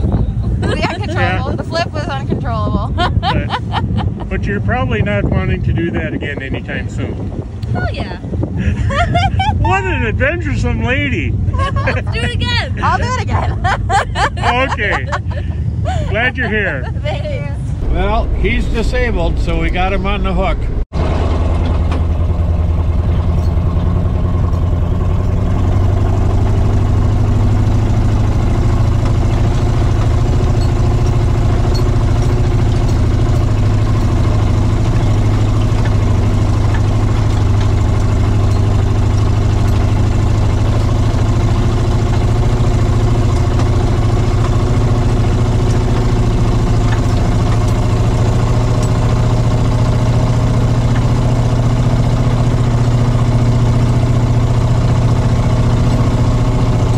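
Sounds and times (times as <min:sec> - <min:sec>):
truck engine running: 0:00.0 - 0:56.9.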